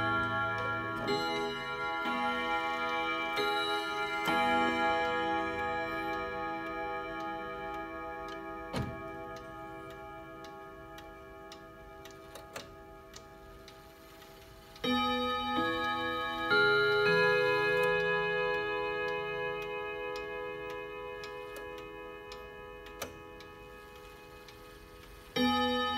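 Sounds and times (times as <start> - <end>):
clock gongs chiming: 0.0 - 25.9
clock ticking: 0.0 - 25.9.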